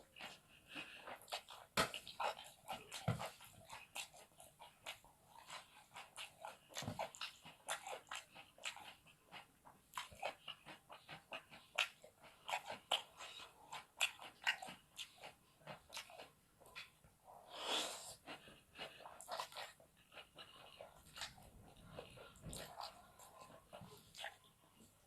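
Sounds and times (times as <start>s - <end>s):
chewing noodles with mouth smacks: 0.0s - 25.0s.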